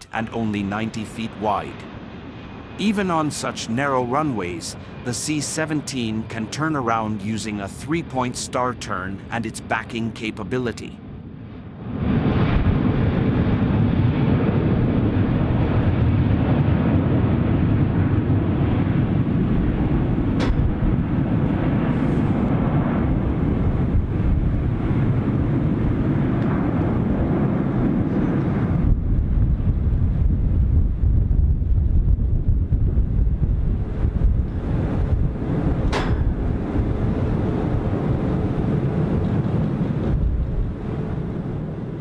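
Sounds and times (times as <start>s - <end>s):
jet engines rumbling at takeoff: 0.0s - 42.0s.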